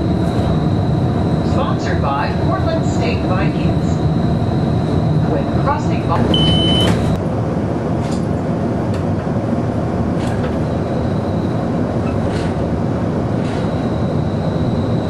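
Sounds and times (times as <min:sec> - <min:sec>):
streetcar rumbling on track: 0:00.0 - 0:15.0.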